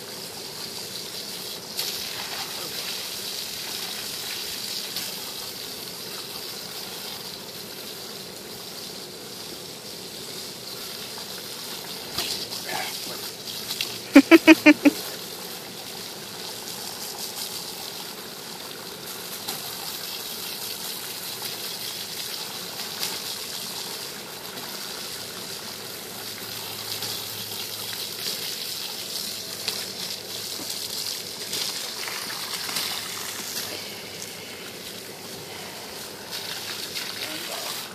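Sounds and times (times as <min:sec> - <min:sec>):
hose spraying water: 0:00.0 - 0:37.9.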